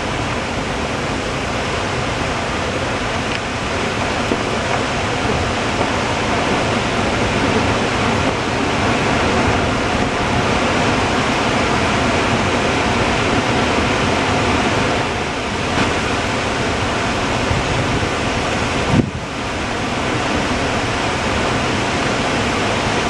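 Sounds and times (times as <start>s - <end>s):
rush of falling water: 0.0s - 23.0s.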